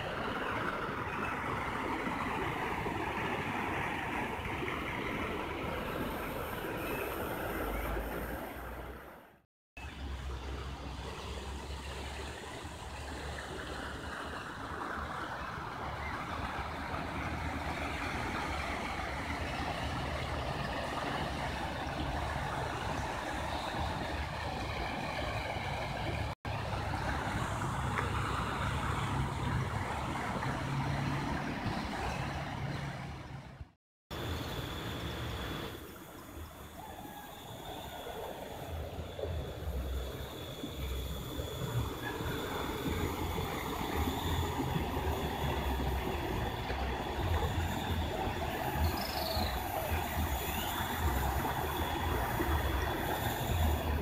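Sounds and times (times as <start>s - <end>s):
water rushing into river: 0.0s - 54.0s.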